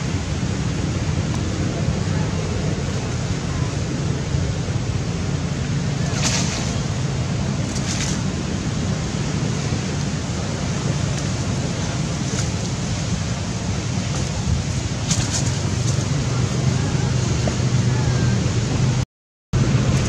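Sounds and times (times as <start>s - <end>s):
wind rushing on microphone: 0.0s - 19.0s, 19.6s - 20.0s.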